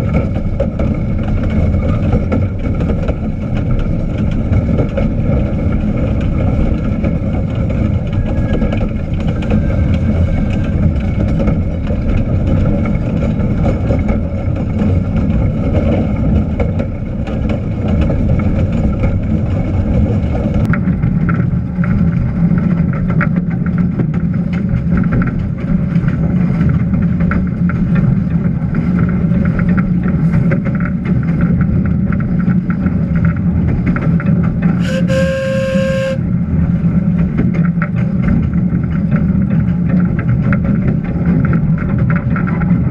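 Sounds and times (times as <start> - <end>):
small locomotive running: 0.0 - 42.9.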